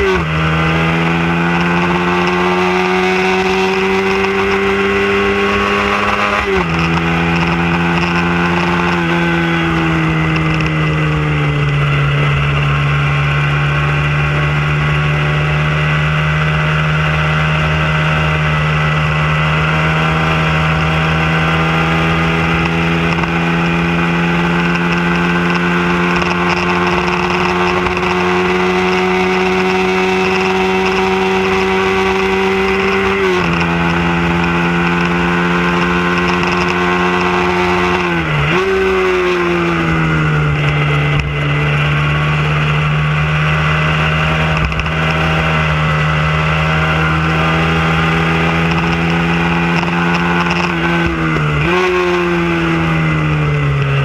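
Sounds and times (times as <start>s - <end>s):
motorcycle engine at high revs: 0.0s - 54.0s.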